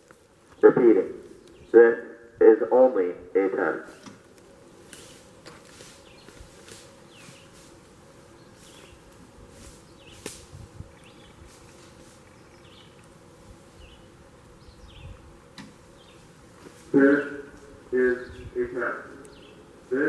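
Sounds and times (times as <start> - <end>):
faint steady buzz: 0.0 - 20.0.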